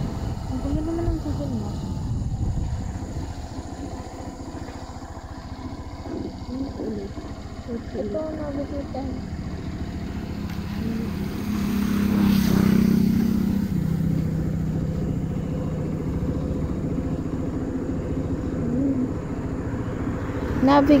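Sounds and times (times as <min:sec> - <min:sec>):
motorcycle engine pulling away: 0:00.0 - 0:21.0
wind and road noise: 0:00.0 - 0:21.0.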